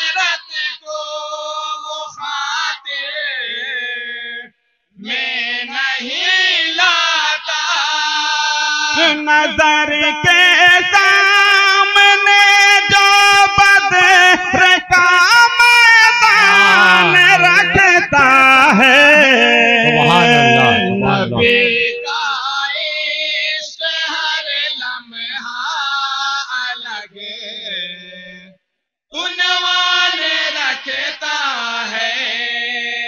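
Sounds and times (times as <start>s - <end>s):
men chanting in unison: 0.0s - 25.6s, 29.2s - 33.0s.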